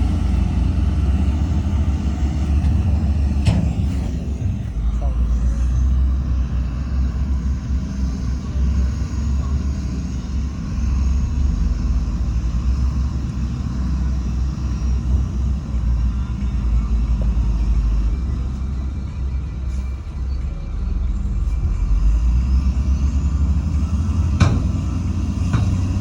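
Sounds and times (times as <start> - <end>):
heavy machinery diesel engine rumbling: 0.0 - 26.0.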